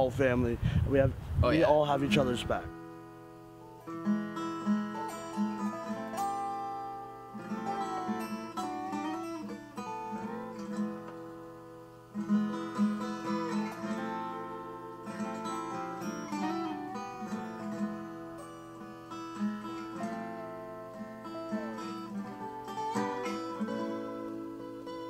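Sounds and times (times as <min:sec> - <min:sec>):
acoustic guitar background music: 0:01.9 - 0:25.0.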